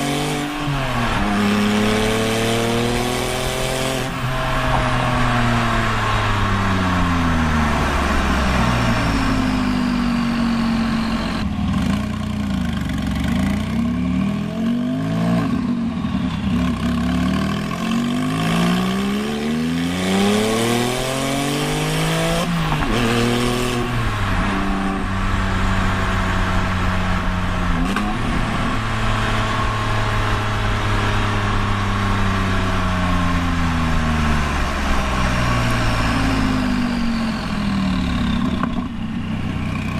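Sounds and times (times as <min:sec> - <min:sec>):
sports car exhaust under acceleration: 0:00.0 - 0:39.9.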